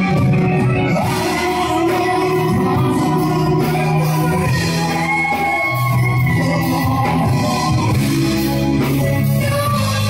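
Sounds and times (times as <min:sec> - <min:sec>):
live rock ballad band: 0:00.0 - 0:10.0.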